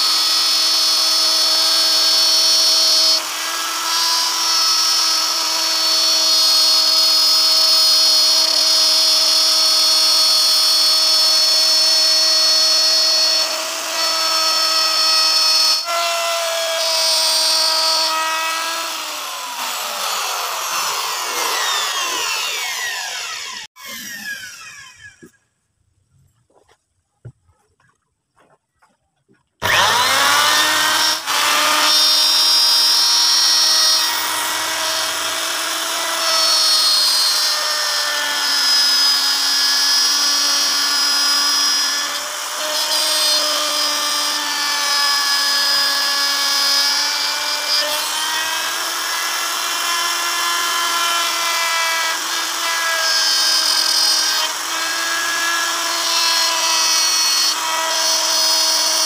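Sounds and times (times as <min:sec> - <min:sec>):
router whining: 0:00.0 - 0:25.4, 0:29.6 - 0:59.0.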